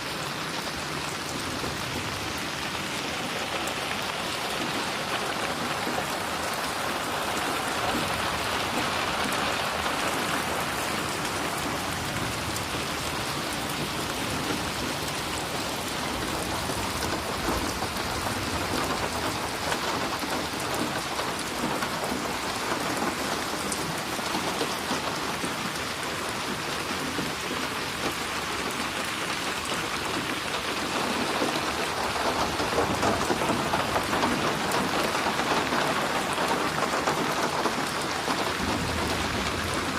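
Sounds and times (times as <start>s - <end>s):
rain splattering on surfaces: 0.0s - 39.9s.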